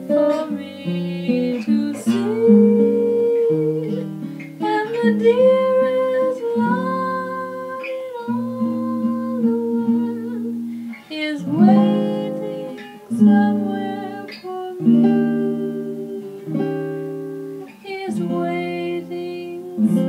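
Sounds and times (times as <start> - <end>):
guitar chords plucked: 0.0 - 20.0
held melody line: 0.0 - 20.0.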